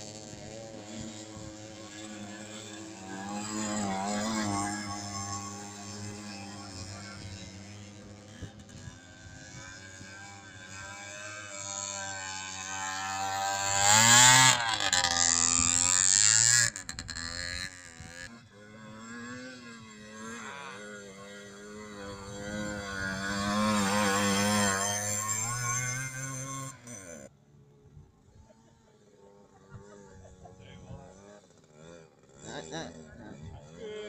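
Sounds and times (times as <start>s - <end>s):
motorcycle engines revving: 0.0s - 34.0s.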